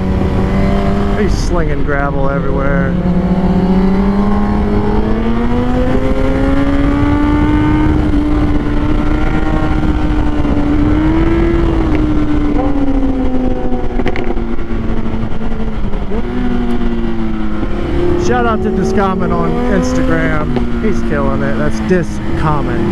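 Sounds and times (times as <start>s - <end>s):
motorcycle engine revving high: 0.0s - 22.9s
wind noise rushing: 0.0s - 22.9s.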